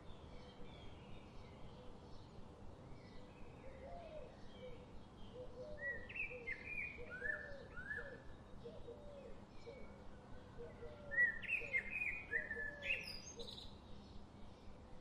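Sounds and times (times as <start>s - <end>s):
faint background hiss: 0.0s - 15.0s
songbirds chirping: 0.0s - 15.0s.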